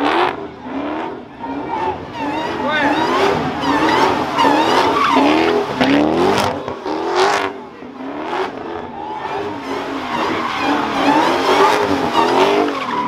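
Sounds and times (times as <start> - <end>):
car engine revving: 0.0 - 13.0
tyres squealing on asphalt: 0.0 - 13.0.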